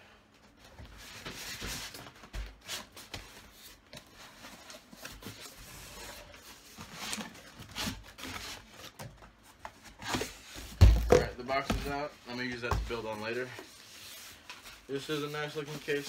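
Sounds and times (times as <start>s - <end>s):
cardboard and plastic rustling: 0.5s - 16.0s.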